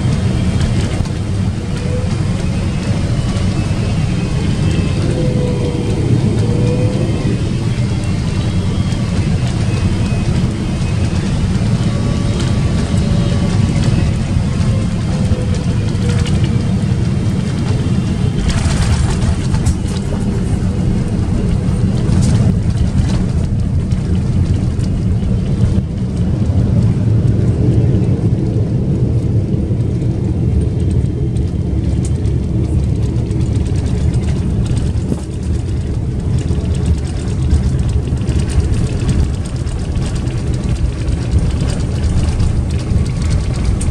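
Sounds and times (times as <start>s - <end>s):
airplane engines and wheels rumbling: 0.0s - 43.9s.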